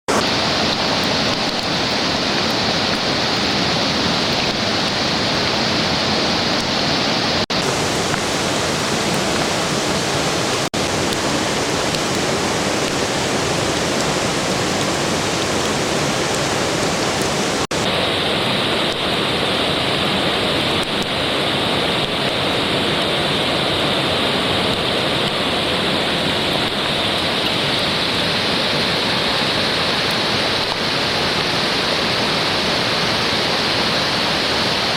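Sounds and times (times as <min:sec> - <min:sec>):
mountain river water rushing: 0:00.1 - 0:34.9.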